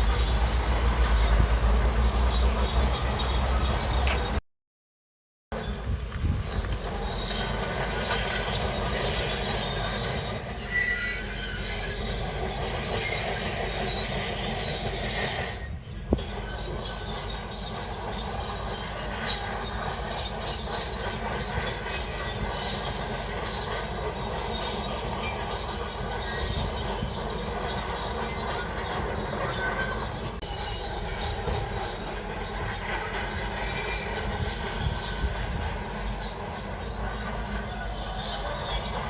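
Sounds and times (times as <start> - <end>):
bulldozer engine: 0.0 - 4.4, 5.6 - 39.0
steel tracks clanking and squealing: 0.0 - 4.4, 5.5 - 39.0.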